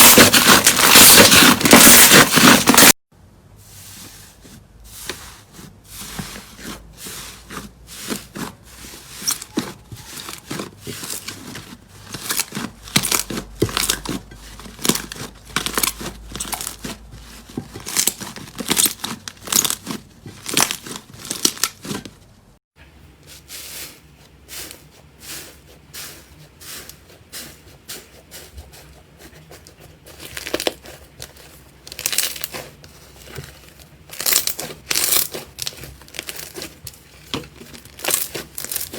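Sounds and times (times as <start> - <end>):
slime crackling and squelching: 0.0 - 3.0, 6.1 - 22.2, 24.3 - 38.9.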